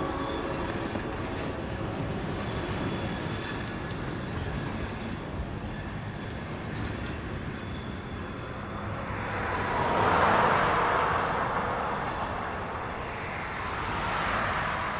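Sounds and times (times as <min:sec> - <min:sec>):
cars passing on road: 0:00.0 - 0:14.9
freight train rumbling on rails: 0:00.0 - 0:14.9.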